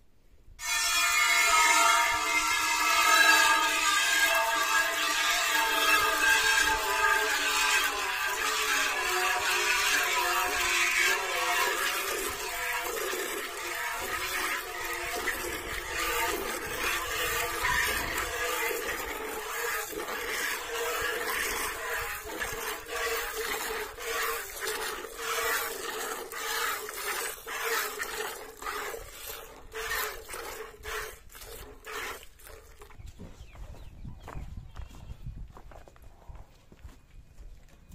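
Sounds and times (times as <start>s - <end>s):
milk squirting into metal pail: 1.1s - 33.0s.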